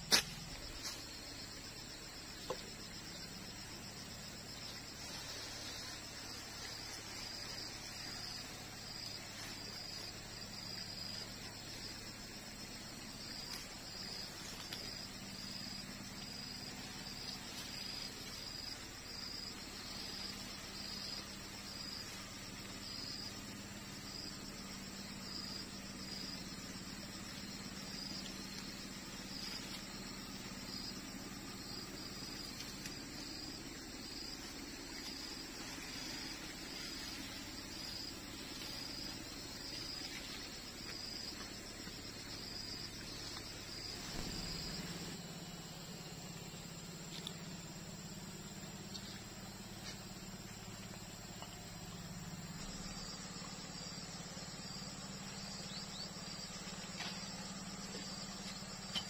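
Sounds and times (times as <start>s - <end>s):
crickets chirping: 0.0s - 59.0s
faint low hum: 0.0s - 59.0s.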